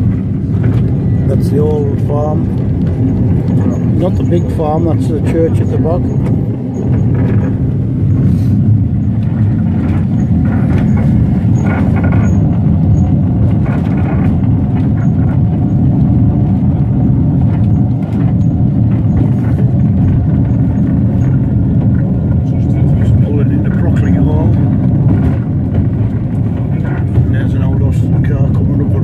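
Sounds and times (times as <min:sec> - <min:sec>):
electric tram rumbling on rails: 0:00.0 - 0:29.0
knocks and clicks of tram: 0:00.0 - 0:29.0.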